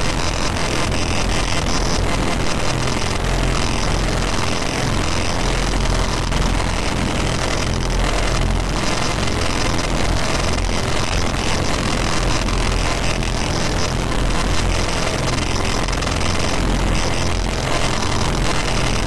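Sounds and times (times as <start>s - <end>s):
distorted noise music: 0.0s - 19.0s.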